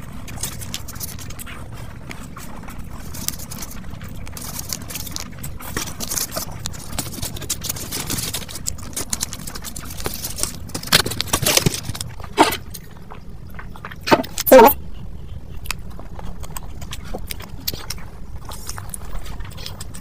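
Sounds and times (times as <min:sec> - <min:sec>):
slurping and chewing noodles: 0:00.0 - 0:20.0.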